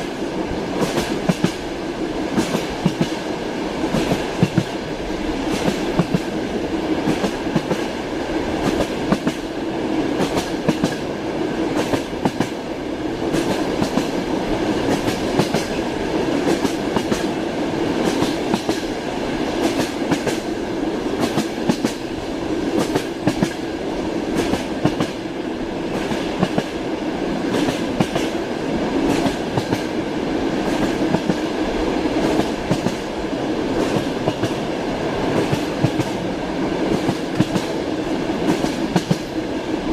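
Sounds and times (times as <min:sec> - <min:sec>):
train rolling rumble: 0:00.0 - 0:39.9.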